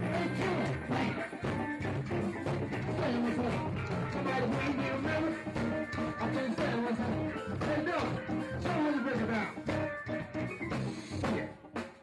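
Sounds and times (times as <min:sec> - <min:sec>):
electric guitar: 0:00.0 - 0:12.0
live band playing: 0:00.0 - 0:12.0.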